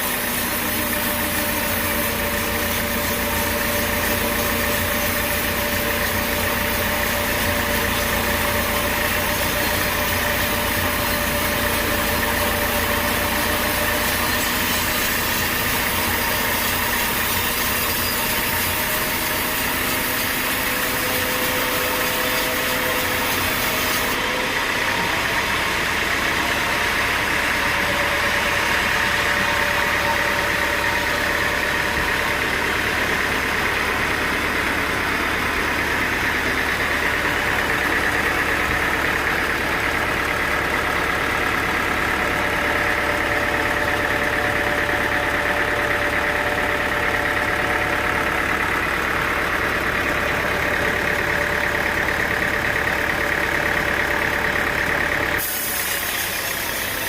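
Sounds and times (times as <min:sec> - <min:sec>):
machinery whining tones: 0:00.0 - 0:57.0
sawmill machinery drone: 0:00.0 - 0:57.0.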